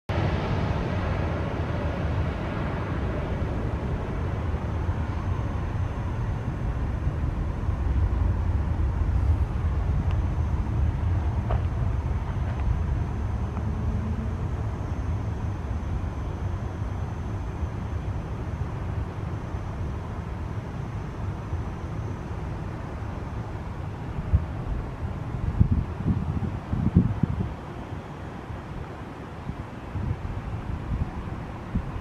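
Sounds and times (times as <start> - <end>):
jet engines rumbling: 0.1 - 32.0.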